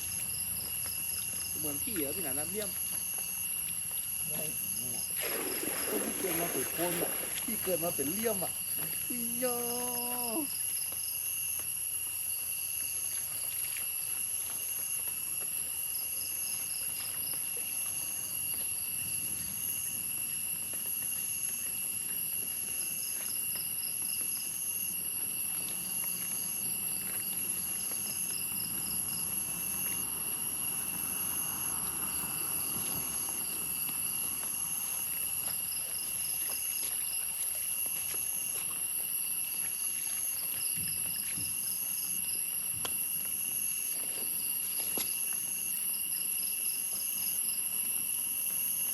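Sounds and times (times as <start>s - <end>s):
high-pitched insect drones: 0.0s - 48.9s
insect chirp trains: 0.0s - 48.9s
short regular insect pulses: 0.0s - 48.9s.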